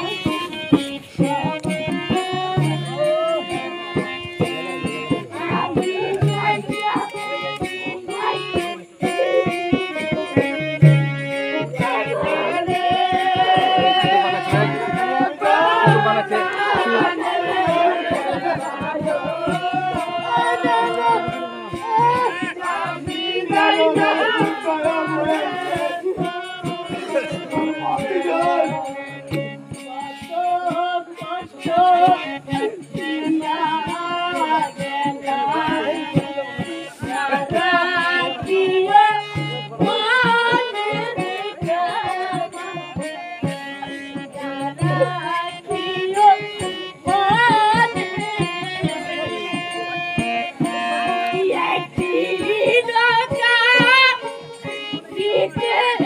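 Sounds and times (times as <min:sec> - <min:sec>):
hand drum beat: 0:00.0 - 0:56.0
person singing folk song: 0:00.0 - 0:56.0.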